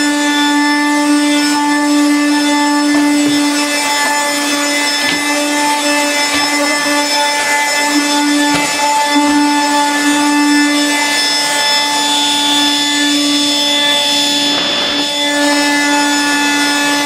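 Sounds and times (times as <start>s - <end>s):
floor sweeper humming whine: 0.0s - 17.0s
brush scrubbing floor: 0.1s - 17.0s.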